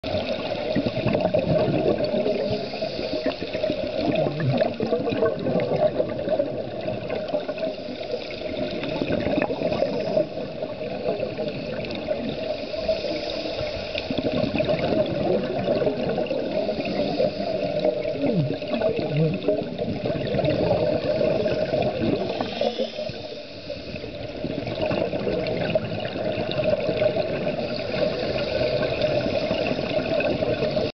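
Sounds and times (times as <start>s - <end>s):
underwater bubbling of exhaled air: 0.0s - 30.9s.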